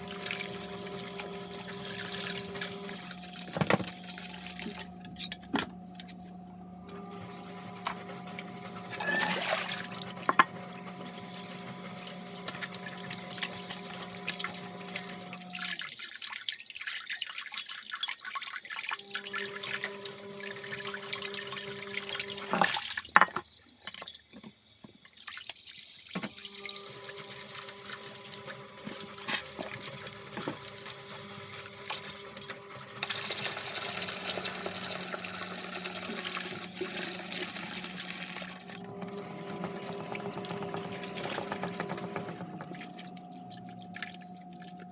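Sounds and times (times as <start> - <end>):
tap water running: 0.0 - 6.2, 6.9 - 44.9.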